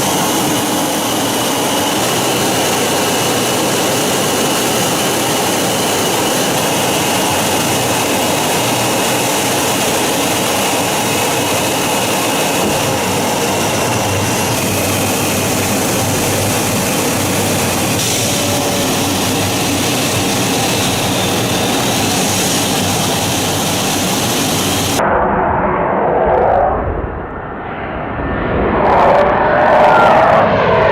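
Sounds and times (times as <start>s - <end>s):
jet engines running: 0.0s - 30.9s.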